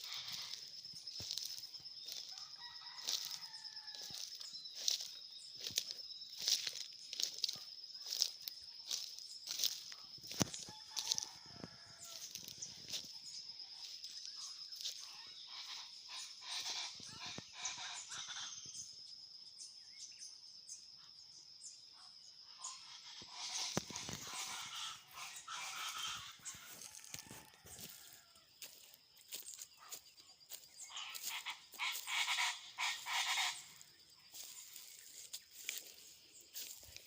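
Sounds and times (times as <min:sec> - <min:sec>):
fowl calling: 0:00.0 - 0:13.1, 0:14.8 - 0:18.6, 0:22.6 - 0:37.0
birds calling: 0:00.0 - 0:19.0, 0:22.6 - 0:37.0.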